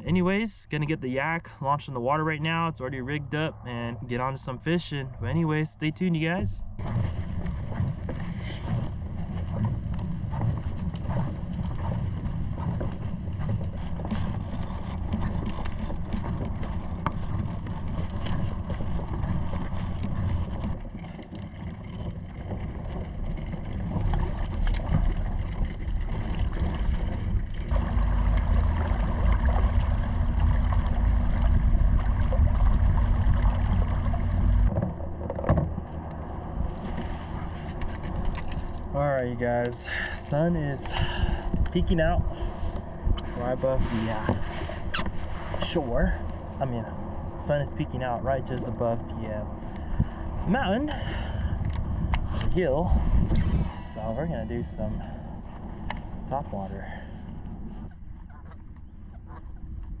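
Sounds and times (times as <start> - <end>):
low rumble: 0.0 - 60.0
water sloshing around kayak: 6.2 - 60.0.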